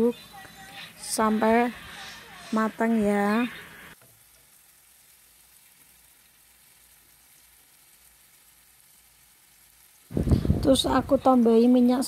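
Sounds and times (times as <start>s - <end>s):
stir-frying sizzle in a wok: 0.0s - 12.0s.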